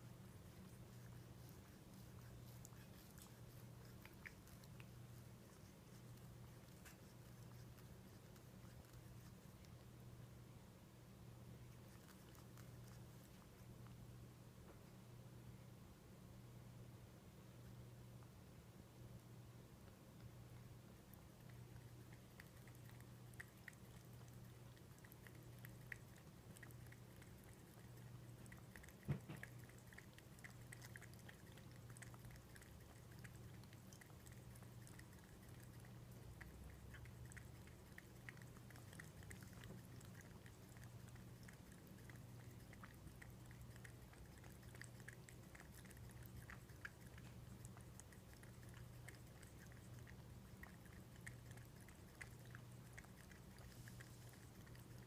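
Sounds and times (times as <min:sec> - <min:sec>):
cat lapping water: 0:00.0 - 0:09.8, 0:11.7 - 0:13.9, 0:20.9 - 0:55.0
low steady hum: 0:00.0 - 0:55.0.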